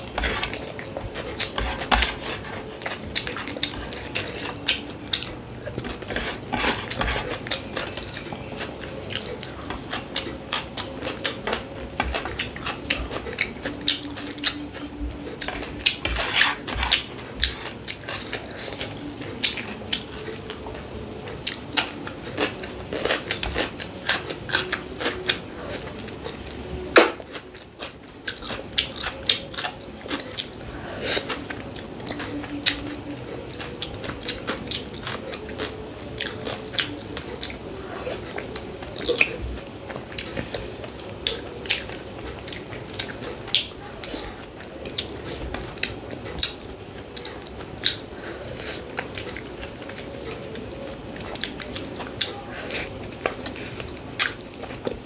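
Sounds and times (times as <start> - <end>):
biting and chewing food: 0.0 - 55.0.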